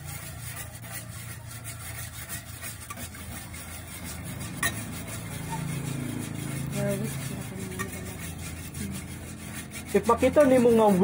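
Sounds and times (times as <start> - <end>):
wire whisk scraping metal bowl: 0.0 - 11.0.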